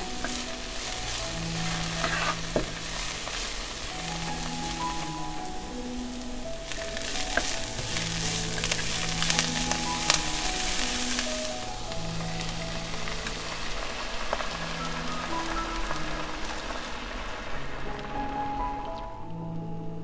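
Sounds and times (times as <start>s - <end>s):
food sizzling in hot oil: 0.0s - 19.0s
soft background music: 0.0s - 20.0s.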